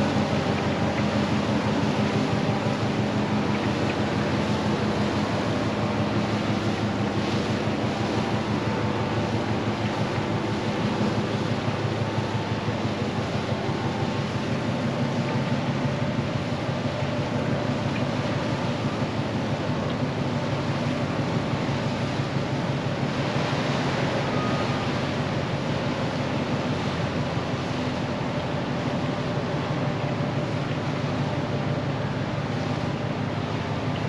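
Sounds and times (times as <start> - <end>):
ship engine humming: 0.0 - 34.0.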